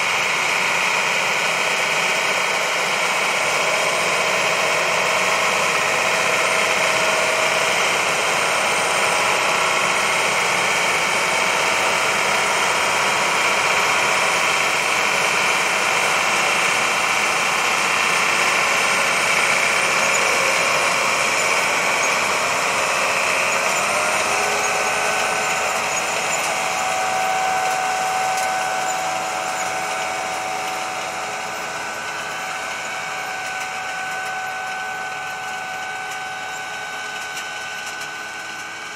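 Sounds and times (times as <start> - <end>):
engine running under load: 0.0 - 38.9
mechanical whine: 0.0 - 38.9.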